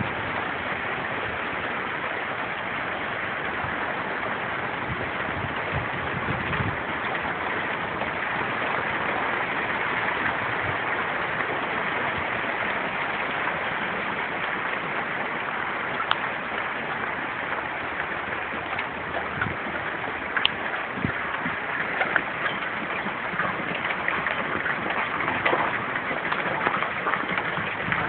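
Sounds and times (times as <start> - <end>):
hail pouring down: 3.5 - 28.0.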